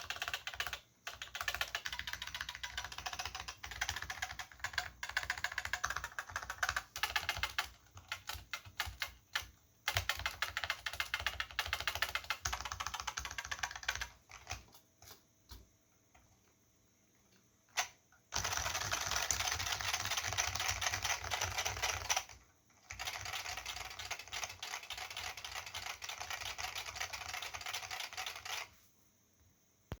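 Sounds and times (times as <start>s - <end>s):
mechanical keyboard typing: 0.0s - 15.2s, 17.7s - 28.8s.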